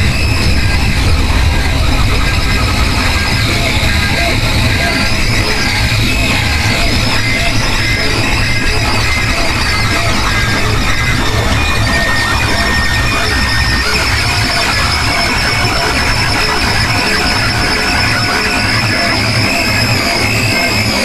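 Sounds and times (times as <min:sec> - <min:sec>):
harsh noise music: 0:00.0 - 0:21.0.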